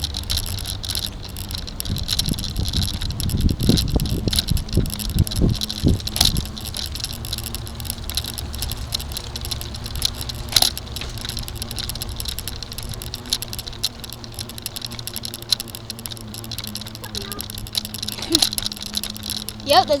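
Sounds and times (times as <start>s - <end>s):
bicycle rattling and clicking: 0.0s - 20.0s
low rumble: 0.0s - 20.0s.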